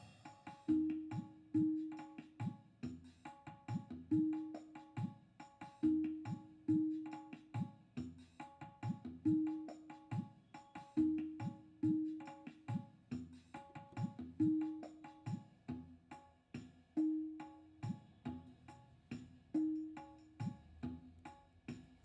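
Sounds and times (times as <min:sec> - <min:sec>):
hand drum rhythm: 0:00.0 - 0:22.0.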